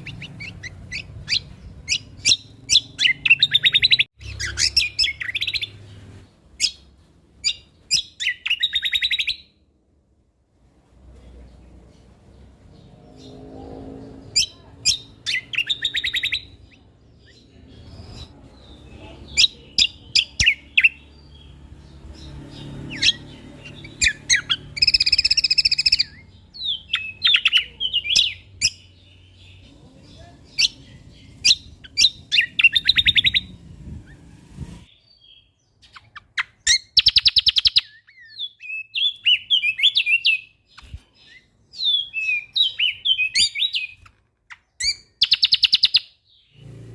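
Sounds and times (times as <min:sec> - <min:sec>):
songbird chirping and trilling: 0:00.0 - 0:46.9.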